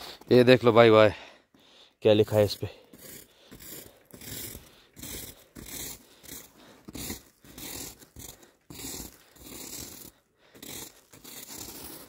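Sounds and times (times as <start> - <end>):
snow crunching and scraping: 2.2 - 12.0.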